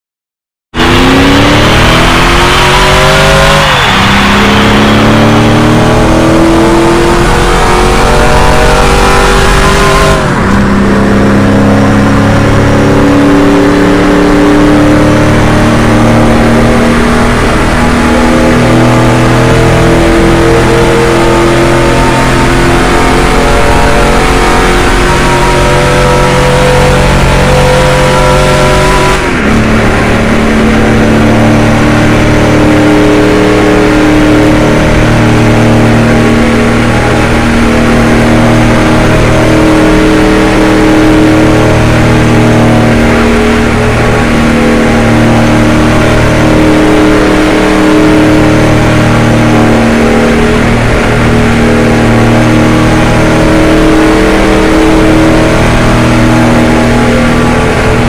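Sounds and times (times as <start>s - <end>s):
car engine at high revs: 0.7s - 58.0s.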